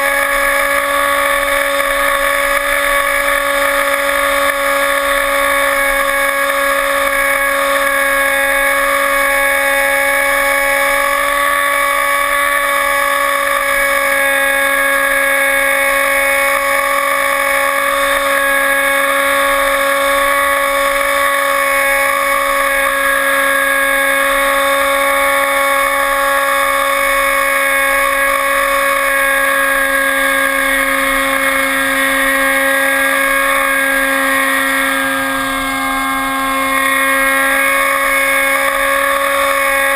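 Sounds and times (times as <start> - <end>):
model airplane motor whining: 0.0 - 39.9.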